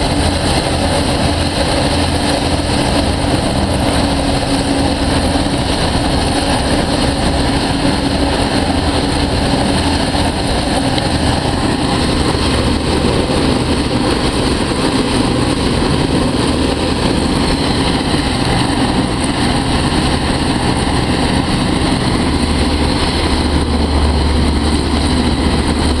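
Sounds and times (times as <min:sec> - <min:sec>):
hovercraft engines droning: 0:00.0 - 0:26.0.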